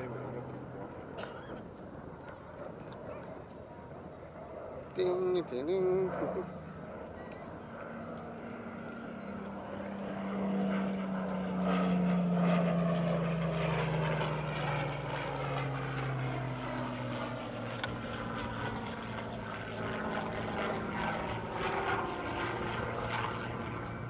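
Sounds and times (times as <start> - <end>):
propeller plane engine flying past: 0.0 - 24.0.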